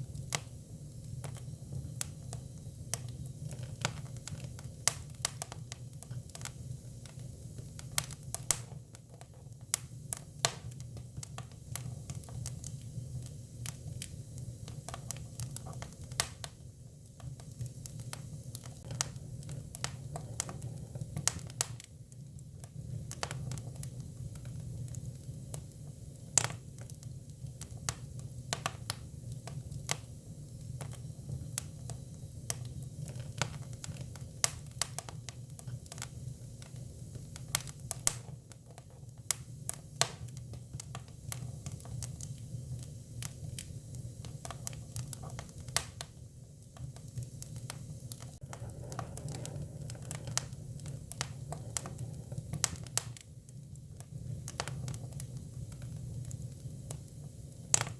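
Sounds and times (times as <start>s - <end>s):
firewood crackling and popping: 0.0s - 57.9s
low rumble of fire: 0.0s - 57.9s.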